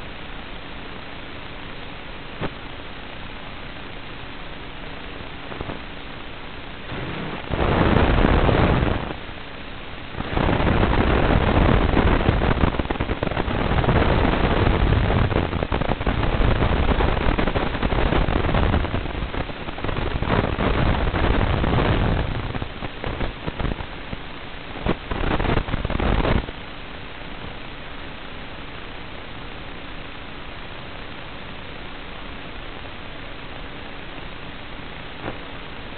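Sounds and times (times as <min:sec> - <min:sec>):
crackling static hiss: 0:00.0 - 0:35.9.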